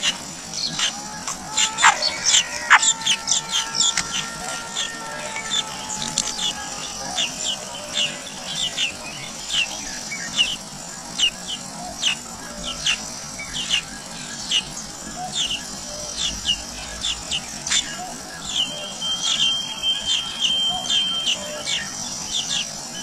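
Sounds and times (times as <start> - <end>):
nestlings chirping: 0.0 - 22.8
faint high hum: 0.0 - 23.0.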